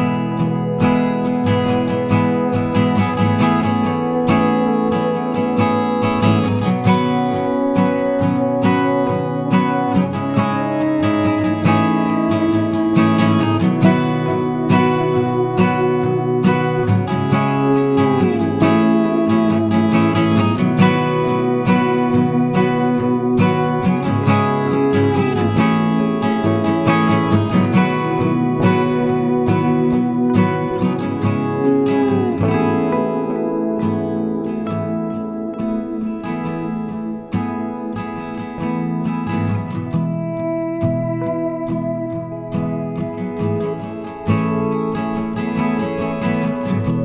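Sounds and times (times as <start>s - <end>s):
acoustic guitar music: 0.0s - 47.0s.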